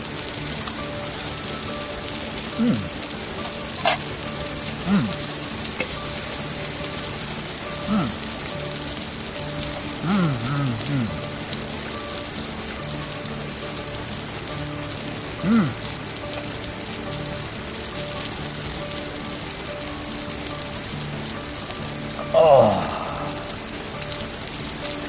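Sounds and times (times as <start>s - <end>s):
sausages sizzling on a grill: 0.0s - 25.0s.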